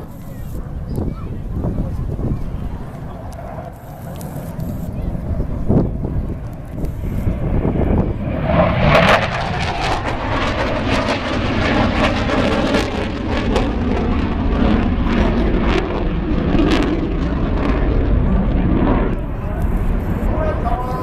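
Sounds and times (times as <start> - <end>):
loud jet engine noise: 0.0 - 21.0.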